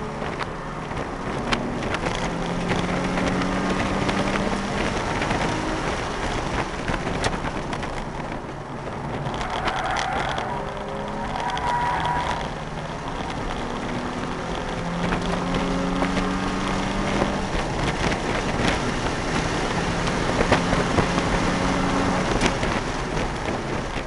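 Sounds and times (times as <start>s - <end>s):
car engine revving: 0.0s - 24.0s
road and wind noise: 0.0s - 24.0s.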